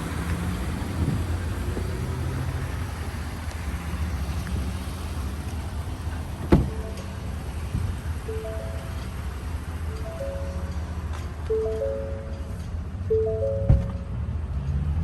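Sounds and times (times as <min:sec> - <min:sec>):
vehicle engine idling: 0:00.0 - 0:14.1.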